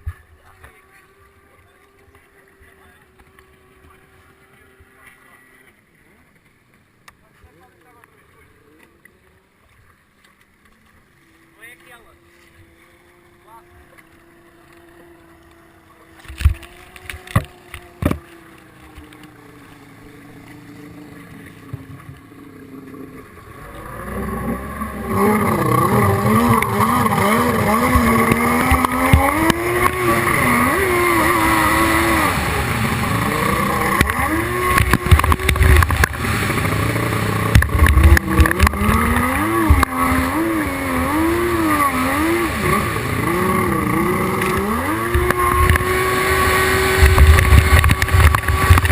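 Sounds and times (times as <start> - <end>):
jet ski engine revving: 0.0 - 6.3, 10.8 - 48.9.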